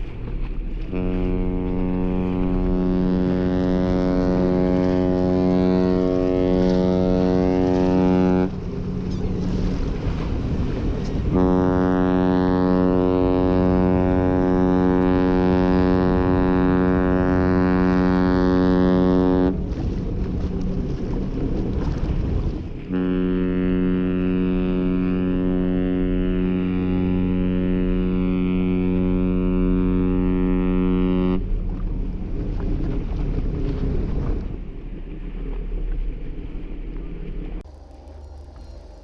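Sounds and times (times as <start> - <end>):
ship horn deep blasts: 0.7 - 32.6.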